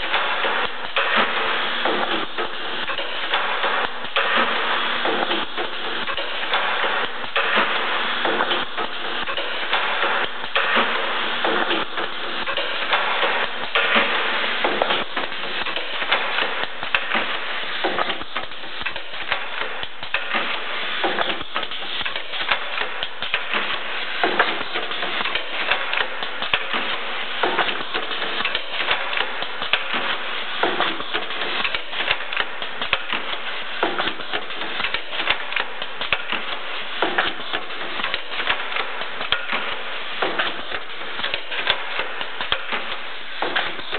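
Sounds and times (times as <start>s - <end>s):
pneumatic machine clacking: 0.0s - 43.9s
steady mechanical noise: 0.0s - 43.9s.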